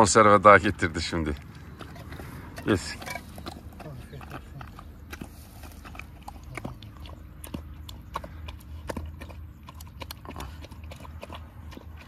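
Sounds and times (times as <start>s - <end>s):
dog chewing wet food: 0.0s - 12.0s.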